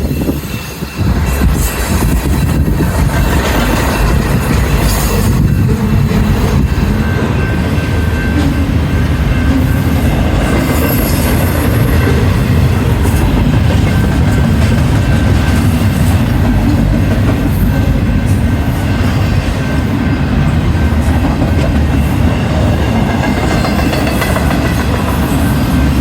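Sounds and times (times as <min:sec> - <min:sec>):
freight train rumbling past: 0:00.0 - 0:26.0.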